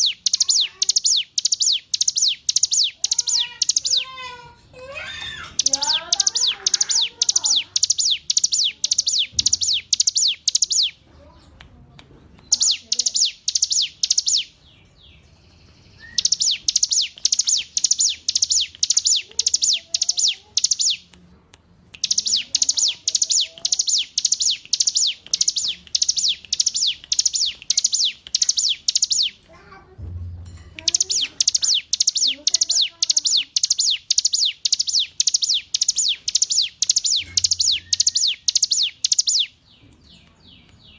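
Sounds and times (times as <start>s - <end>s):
faint lower bird chirps: 0.0s - 4.1s, 5.1s - 11.4s, 12.5s - 21.1s, 22.0s - 29.4s, 30.9s - 40.9s
bird singing sharp high notes: 0.0s - 4.2s, 5.2s - 11.0s, 12.5s - 15.2s, 15.9s - 21.1s, 22.0s - 29.4s, 30.8s - 39.6s.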